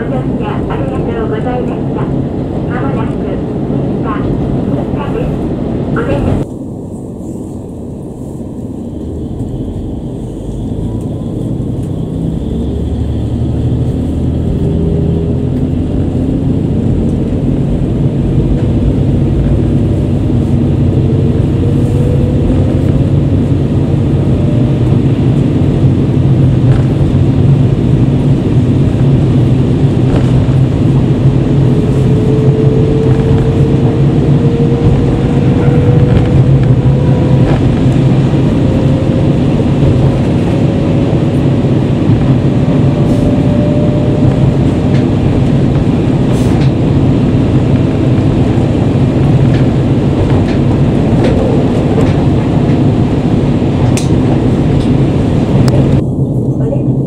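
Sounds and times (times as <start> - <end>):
diesel railcar engine: 0.0 - 57.0
rising whines: 0.0 - 57.0.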